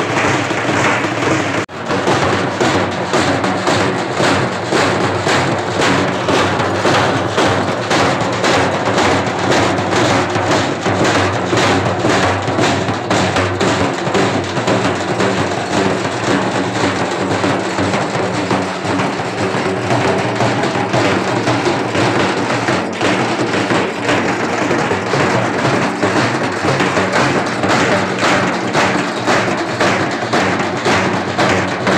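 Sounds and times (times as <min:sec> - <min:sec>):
frame drums beaten fast: 0:00.0 - 0:31.9.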